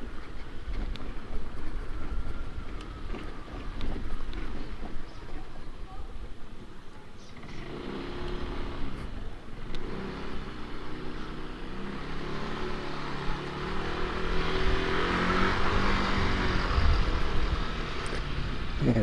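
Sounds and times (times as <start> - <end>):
scooter engine running: 0.0 - 19.0.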